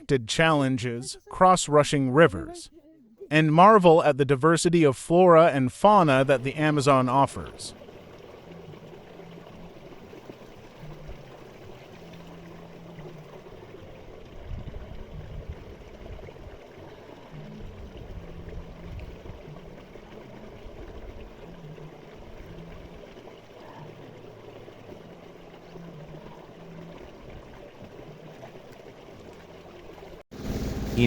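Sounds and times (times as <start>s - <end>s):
running water: 0.0s - 31.0s.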